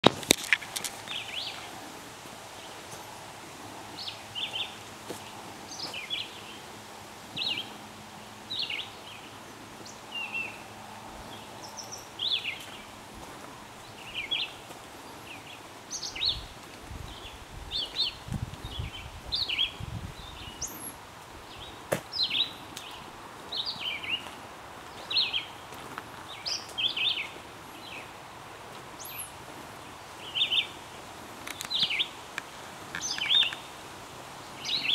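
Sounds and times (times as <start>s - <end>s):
faint background hiss: 0.0s - 34.9s
songbirds chirping: 0.0s - 34.9s.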